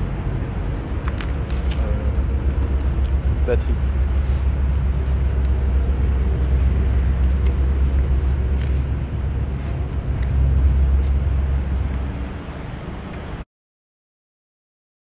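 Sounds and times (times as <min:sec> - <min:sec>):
road traffic rumble: 0:00.0 - 0:13.4.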